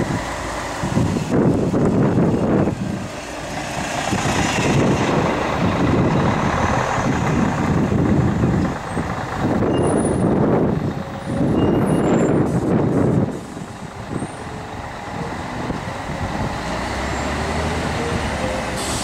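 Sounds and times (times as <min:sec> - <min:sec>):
bus diesel engines passing: 0:00.0 - 0:19.0.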